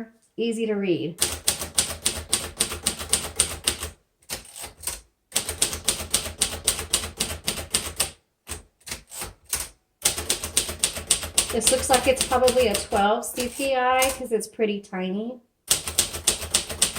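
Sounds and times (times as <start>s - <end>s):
manual typewriter key strikes: 1.2s - 14.2s, 15.7s - 16.9s.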